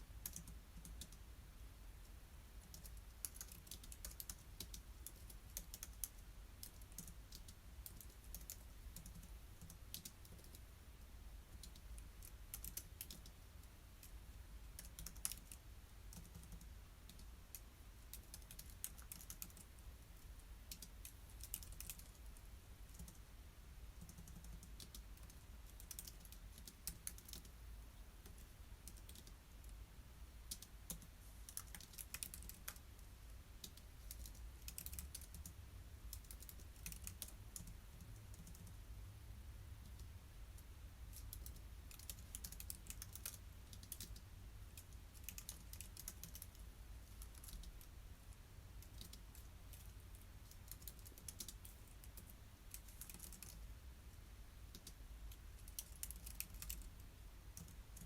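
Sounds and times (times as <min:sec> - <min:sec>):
low steady background hum: 0:00.0 - 0:58.0.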